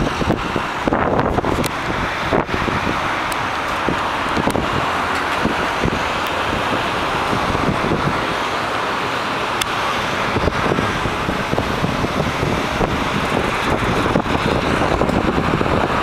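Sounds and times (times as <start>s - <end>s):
bus road and engine noise: 0.0s - 16.0s
wind buffeting microphone: 0.0s - 16.0s.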